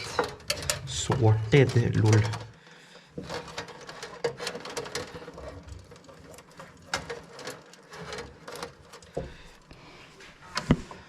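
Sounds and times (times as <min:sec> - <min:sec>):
rustling of small objects: 0:00.0 - 0:11.0.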